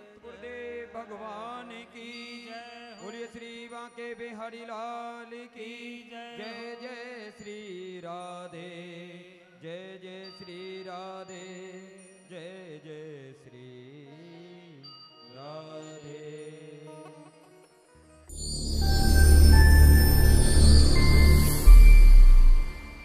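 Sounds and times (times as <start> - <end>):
slow chant-like devotional music: 0.0 - 23.0.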